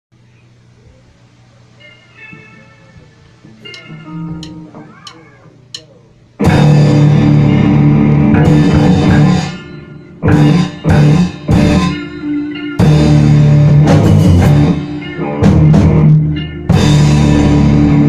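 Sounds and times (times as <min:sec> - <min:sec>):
rock band playing: 0:03.5 - 0:18.0.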